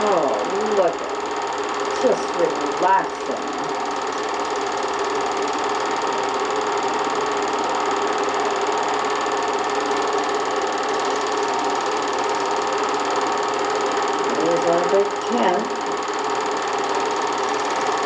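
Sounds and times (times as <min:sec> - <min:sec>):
film advancing rattle: 0:00.0 - 0:18.0
film projector whirring: 0:00.0 - 0:18.0.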